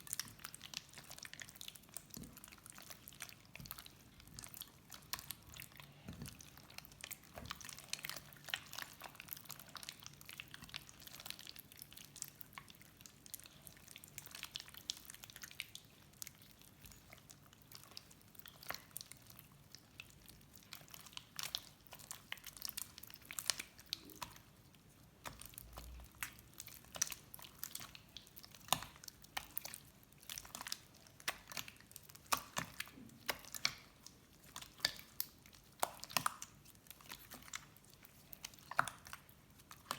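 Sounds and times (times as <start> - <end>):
slime squished by hand: 0.0 - 39.9.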